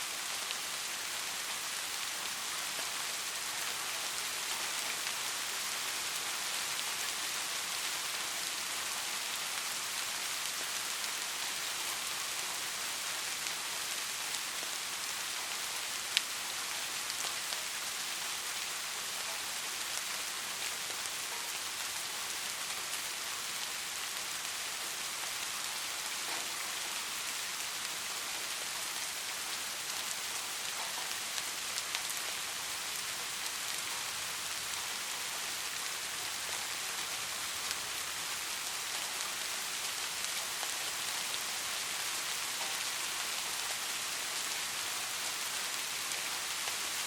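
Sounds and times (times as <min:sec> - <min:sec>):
soft rain falling: 0:00.0 - 0:47.0.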